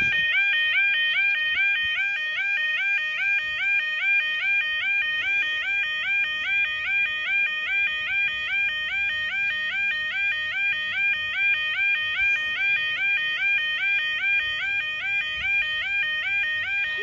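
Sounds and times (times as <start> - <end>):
level crossing warbling alarm: 0.0 - 17.0.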